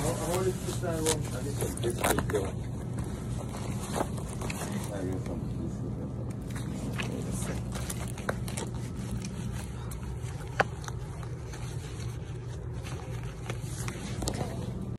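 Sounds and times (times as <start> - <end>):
machinery hum: 0.0 - 14.9.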